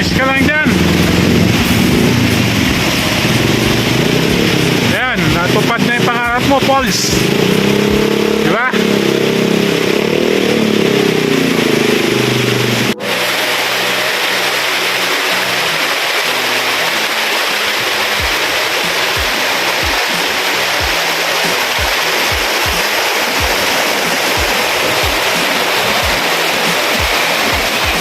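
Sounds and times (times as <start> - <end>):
background music with deep bass: 0.0 - 28.0
waterfall rushing: 0.0 - 28.0.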